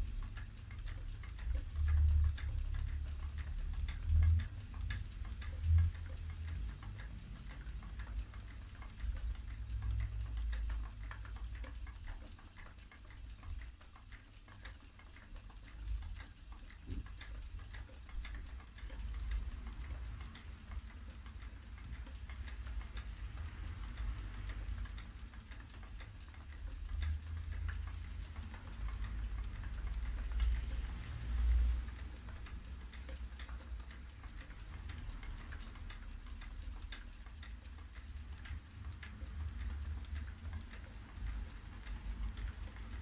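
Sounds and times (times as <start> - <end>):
spinning wheel ticking and clicking: 0.0 - 43.0.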